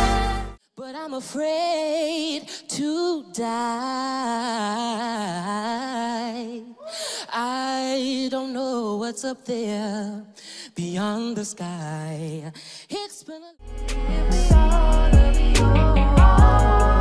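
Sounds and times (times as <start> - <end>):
man singing a cappella: 0.0 - 17.0.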